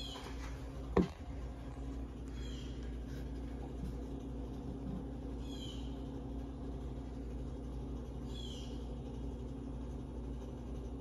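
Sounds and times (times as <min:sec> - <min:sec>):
ceiling fan motor hum: 0:00.0 - 0:11.0.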